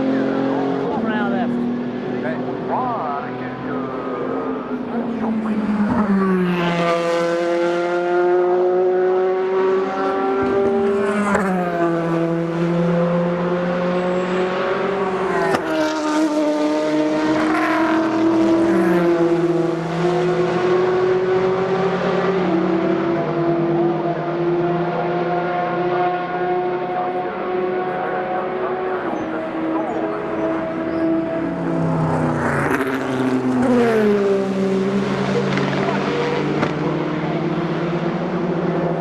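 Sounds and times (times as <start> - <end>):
race car engines accelerating: 0.0 - 39.0.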